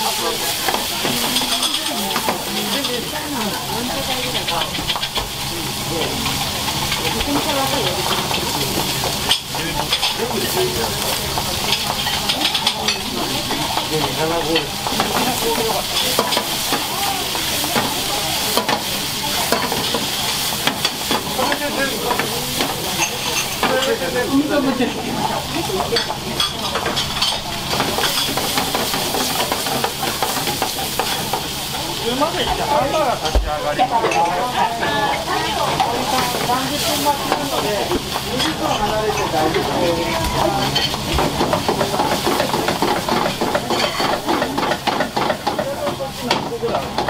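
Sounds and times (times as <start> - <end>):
food sizzling in a frying pan: 0.0 - 47.0.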